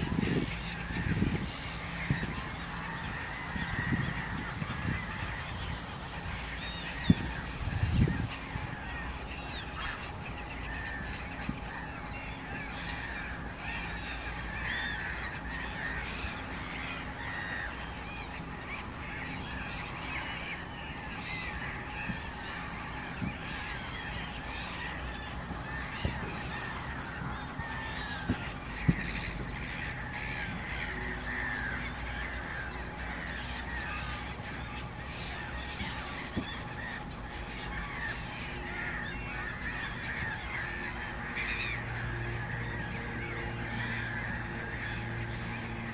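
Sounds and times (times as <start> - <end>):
flock of waterbirds calling: 0.0 - 45.9.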